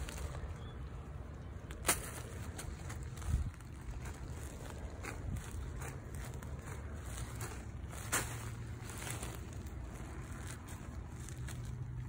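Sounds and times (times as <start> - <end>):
hand rustling potting soil: 0.0 - 12.0
steady low rumble: 0.0 - 12.0.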